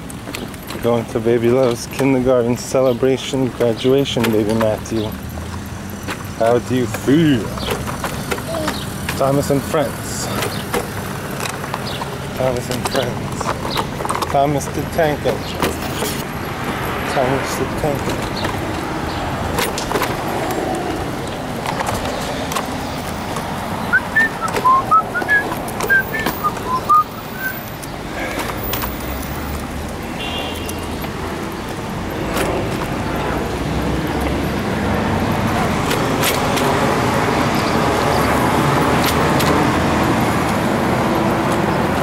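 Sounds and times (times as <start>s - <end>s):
cars passing: 0.0s - 42.0s.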